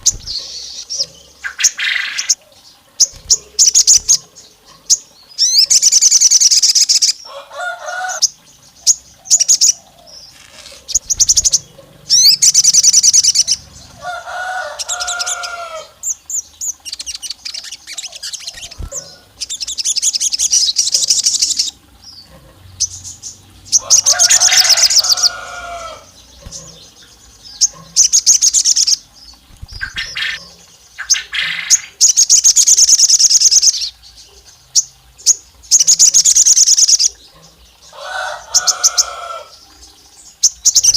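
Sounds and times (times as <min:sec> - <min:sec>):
songbird chattering trills: 0:00.0 - 0:40.9.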